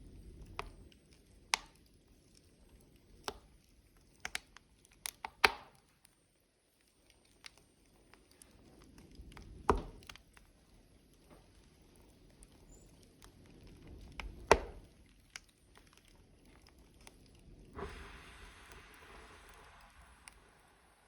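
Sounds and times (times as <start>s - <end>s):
loud cracks from fire: 0.0s - 6.1s, 6.8s - 21.0s
wood fire crackling: 0.0s - 21.0s.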